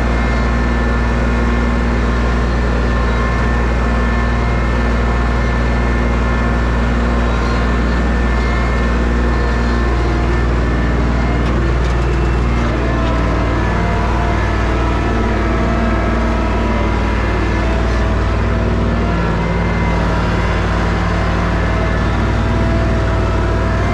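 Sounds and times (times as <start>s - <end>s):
engine running steadily: 0.0s - 23.9s.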